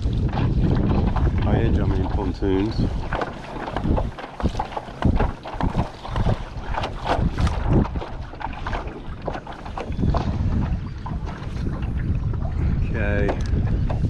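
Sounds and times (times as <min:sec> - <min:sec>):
water slapping against kayak hull: 0:00.0 - 0:14.0
wind buffeting microphone: 0:00.0 - 0:14.0.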